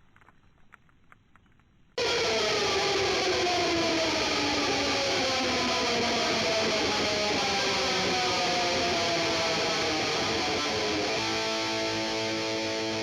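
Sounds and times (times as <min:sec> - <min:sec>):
distorted electric guitar music: 0:02.0 - 0:13.0.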